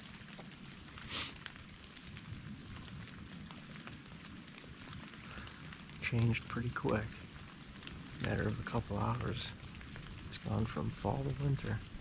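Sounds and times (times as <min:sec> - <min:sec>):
wet snow pattering: 0:00.0 - 0:12.0.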